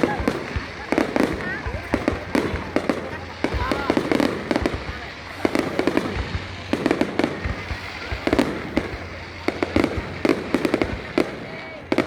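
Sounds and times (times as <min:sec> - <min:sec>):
fireworks popping and banging: 0:00.0 - 0:12.0.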